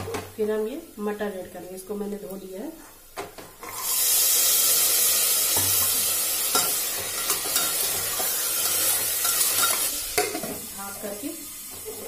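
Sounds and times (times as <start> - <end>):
peas sizzling in hot ghee: 0.0 - 12.0.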